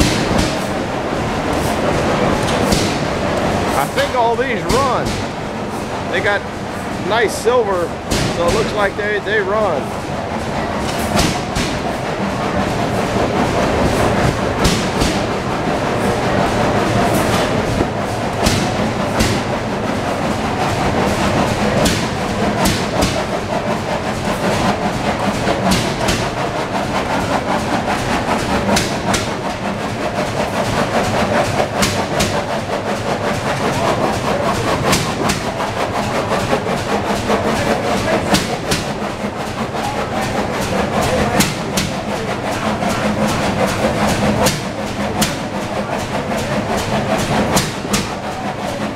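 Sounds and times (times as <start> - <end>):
gas engines clattering: 0.0 - 48.9
sharp exhaust pops and knocks: 0.0 - 48.9.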